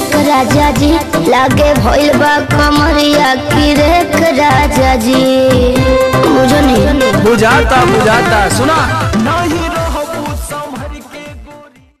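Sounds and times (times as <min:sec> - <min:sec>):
pop song with thumping bass: 0:00.0 - 0:12.0.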